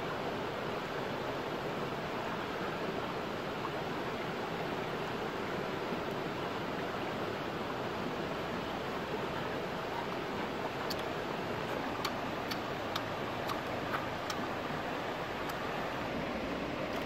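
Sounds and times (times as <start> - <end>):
stream flowing: 0.0 - 17.0.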